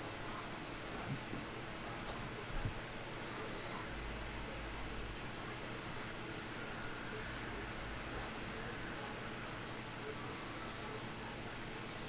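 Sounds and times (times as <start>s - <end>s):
room noise hiss: 0.0s - 12.0s.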